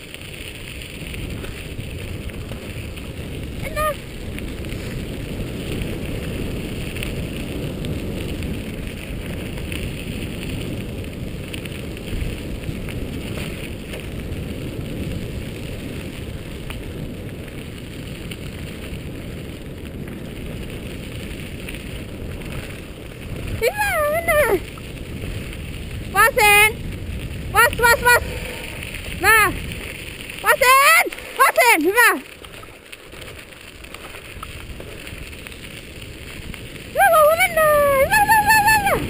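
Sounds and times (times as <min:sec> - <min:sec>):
tyres rolling over gravel: 0:00.0 - 0:39.0
wind on microphone: 0:00.0 - 0:39.0.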